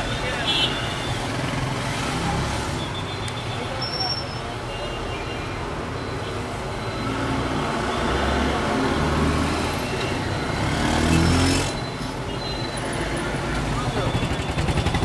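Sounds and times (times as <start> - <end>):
street traffic engines: 0.0 - 15.0.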